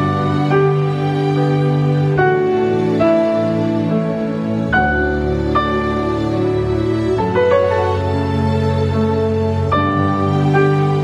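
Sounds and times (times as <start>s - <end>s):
slow gentle background music: 0.0s - 11.0s.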